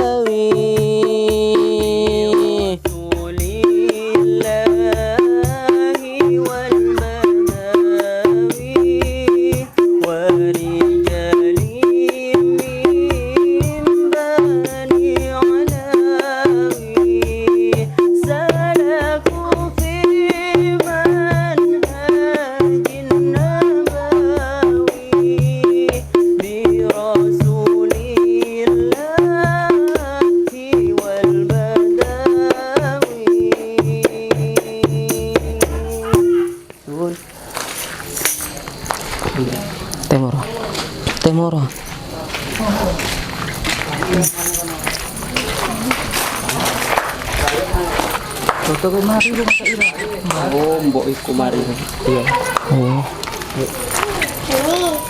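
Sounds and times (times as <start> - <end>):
rhythmic drum beats: 0.0 - 36.9, 41.8 - 55.0.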